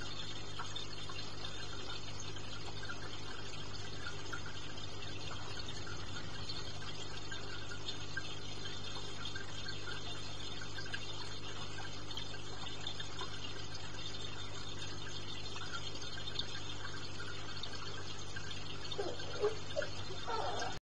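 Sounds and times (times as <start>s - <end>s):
aquarium pump humming: 0.0s - 20.8s
water trickling and splashing: 0.0s - 20.8s.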